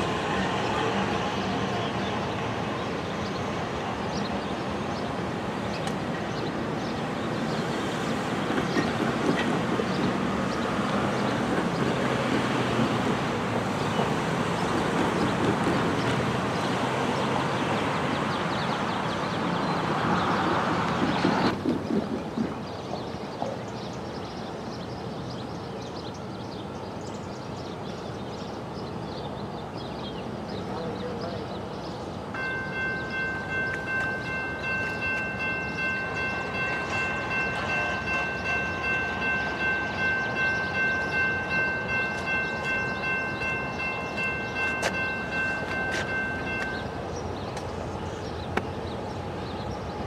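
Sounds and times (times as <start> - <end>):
freight train rumbling and clattering: 0.0 - 24.0, 30.5 - 50.0.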